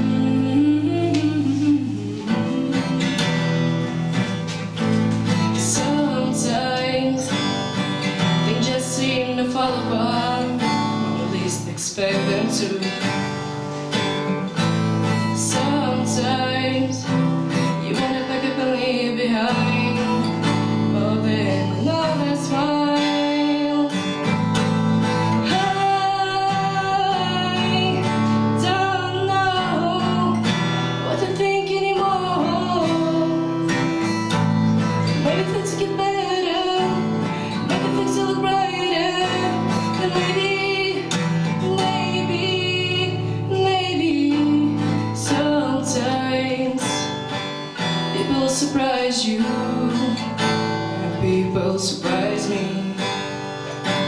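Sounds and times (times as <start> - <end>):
acoustic guitar strumming: 0.0 - 54.0
woman singing: 0.0 - 54.0.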